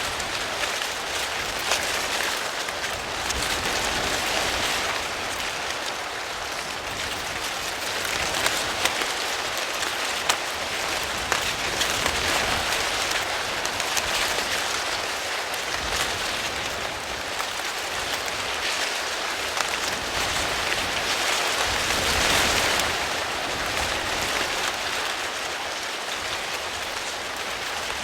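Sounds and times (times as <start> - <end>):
corn leaves rustling in wind: 0.0 - 28.0.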